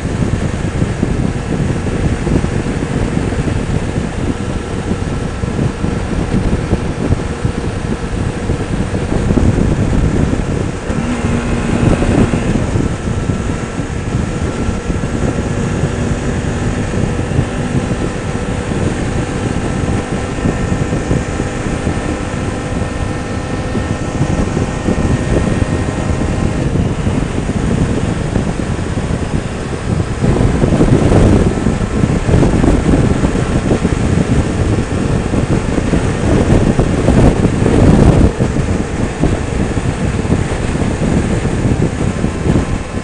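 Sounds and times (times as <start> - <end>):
motorcycle engine running: 0.0 - 43.0
wind buffeting microphone: 0.0 - 43.0.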